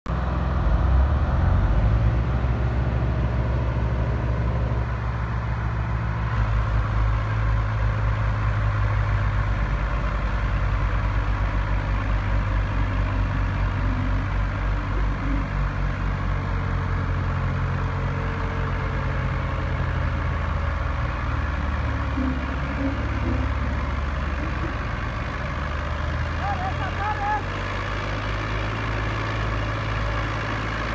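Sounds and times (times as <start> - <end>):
tractor diesel engine running: 0.1 - 30.9.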